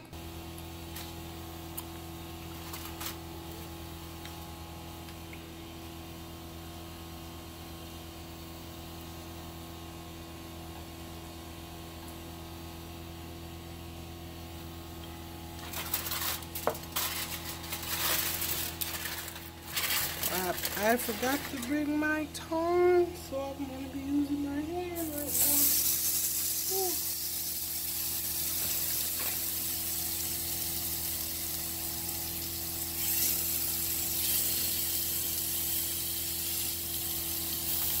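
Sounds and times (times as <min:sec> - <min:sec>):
machine hum with tones: 0:00.0 - 0:38.0.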